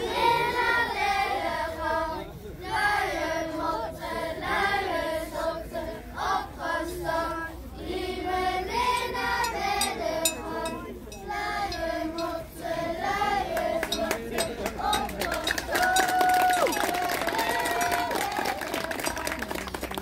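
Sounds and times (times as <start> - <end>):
children singing unaccompanied: 0.0 - 16.1.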